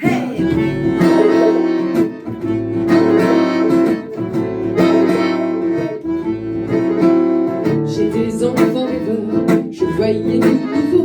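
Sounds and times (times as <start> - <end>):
accordion melody: 0.0 - 11.0
strummed acoustic guitar: 0.0 - 11.0
violin melody: 0.4 - 11.0.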